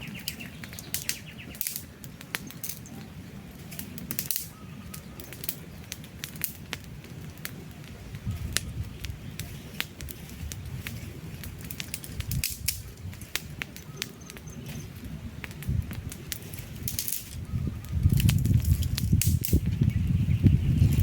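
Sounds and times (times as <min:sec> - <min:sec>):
campfire logs crackling and popping: 0:00.0 - 0:21.0
low rumble of flame: 0:00.0 - 0:21.0.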